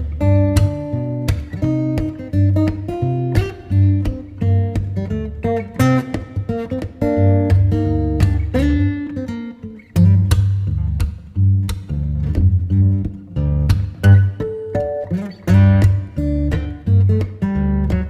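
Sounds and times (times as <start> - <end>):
acoustic guitar music with bass: 0.0 - 18.0.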